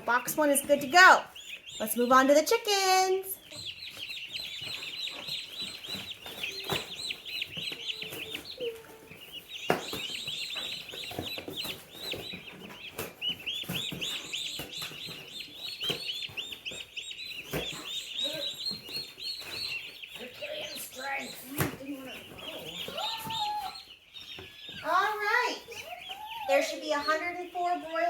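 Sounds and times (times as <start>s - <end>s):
chicks peeping: 0.0s - 28.0s.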